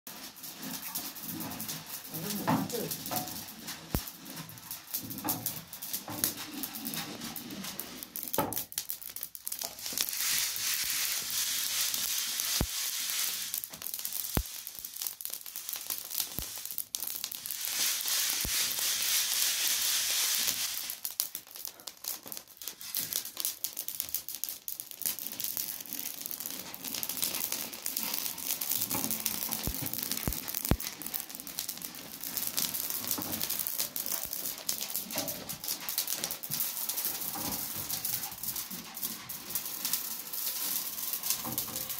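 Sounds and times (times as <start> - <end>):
grain crackling in a hot pan: 0.1 - 41.9.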